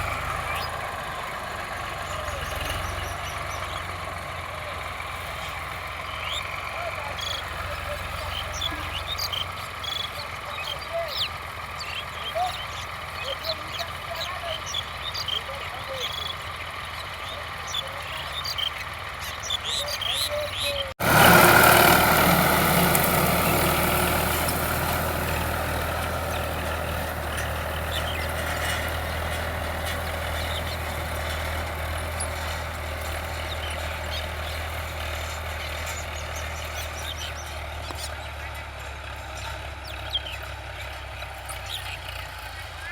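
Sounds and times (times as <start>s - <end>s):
birds chirping: 0.0s - 42.9s
tractor diesel engine running: 0.0s - 42.9s.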